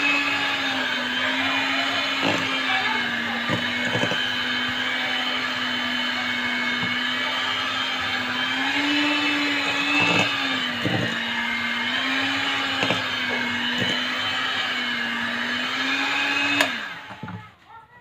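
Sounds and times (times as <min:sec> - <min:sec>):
electric mixer beating batter: 0:00.0 - 0:17.5.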